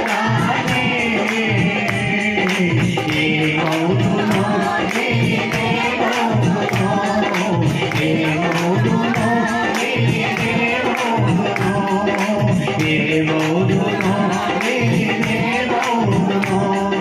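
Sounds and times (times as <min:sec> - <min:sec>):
man singing into microphone: 0:00.0 - 0:17.0
music with jingling beat: 0:00.0 - 0:17.0.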